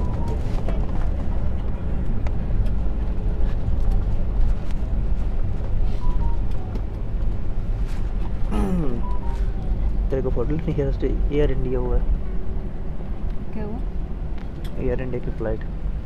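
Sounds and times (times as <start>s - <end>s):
airliner cabin rumble: 0.0s - 13.2s.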